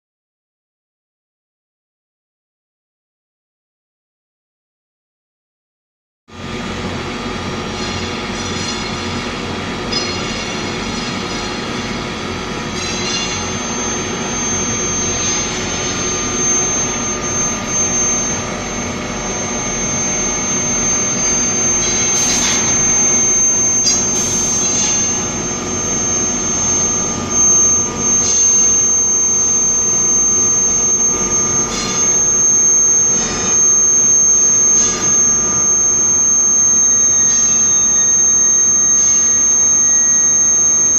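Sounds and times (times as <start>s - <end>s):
high-pitched machine whine: 6.3s - 40.9s
machine drone: 6.3s - 40.9s.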